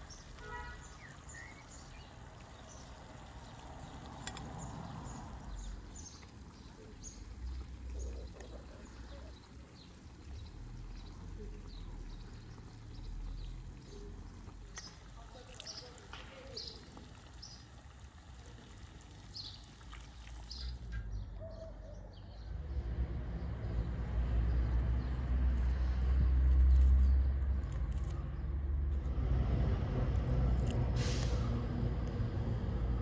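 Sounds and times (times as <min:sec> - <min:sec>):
small birds chirping: 0:00.0 - 0:22.8, 0:23.4 - 0:28.6.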